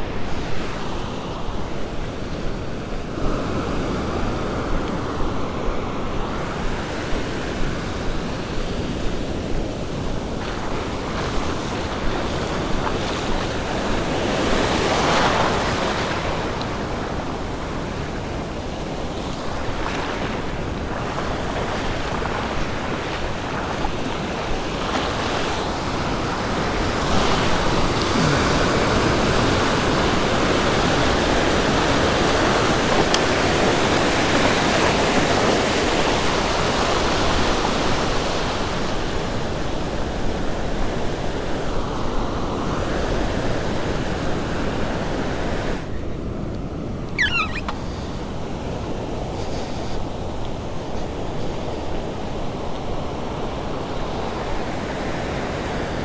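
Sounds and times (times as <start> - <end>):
ocean surf breaking on beach: 0.0 - 56.0
wind gusts on microphone: 0.0 - 56.0.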